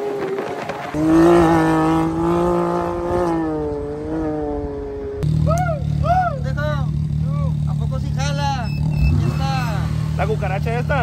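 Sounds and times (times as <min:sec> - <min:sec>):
engine rumble with warble: 0:00.0 - 0:11.0
vehicle engine revving: 0:00.0 - 0:11.0.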